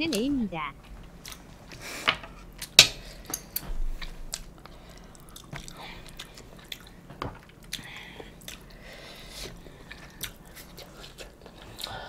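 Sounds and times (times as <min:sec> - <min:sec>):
chewing and biting food: 0:01.1 - 0:01.8, 0:02.5 - 0:12.0.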